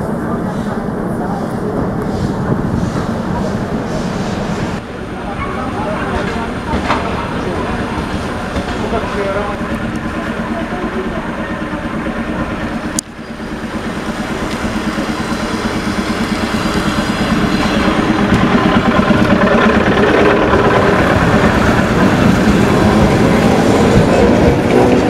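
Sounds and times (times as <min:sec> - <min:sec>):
electric train accelerating: 0:00.0 - 0:25.0.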